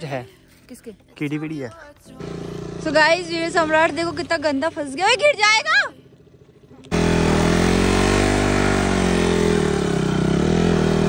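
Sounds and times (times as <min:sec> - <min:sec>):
motorcycle engine running: 0:02.1 - 0:11.0.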